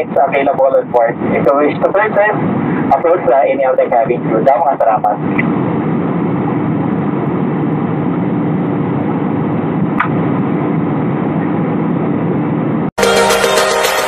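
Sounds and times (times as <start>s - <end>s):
jet airliner cabin noise: 0.0s - 12.9s.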